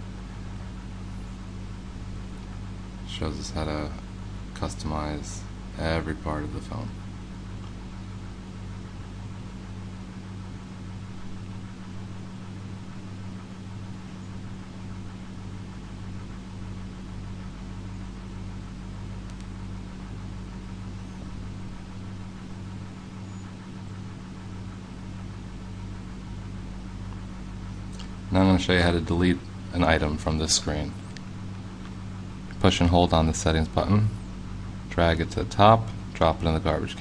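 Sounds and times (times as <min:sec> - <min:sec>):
low hum with faint hiss: 0:00.0 - 0:37.0.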